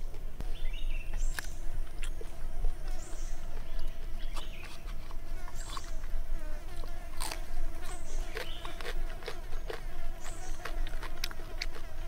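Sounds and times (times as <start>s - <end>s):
crunchy chewing: 0.0s - 12.0s
insects buzzing: 0.0s - 12.0s.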